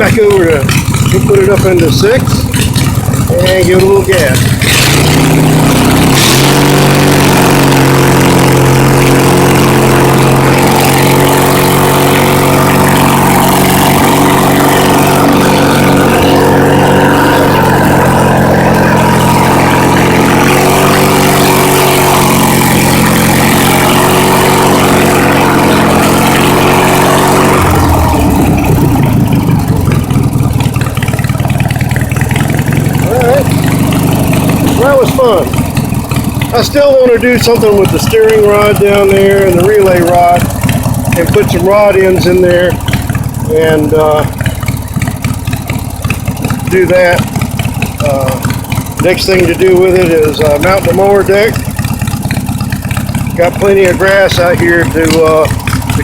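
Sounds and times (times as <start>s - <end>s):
garden tractor engine: 0.0s - 56.0s.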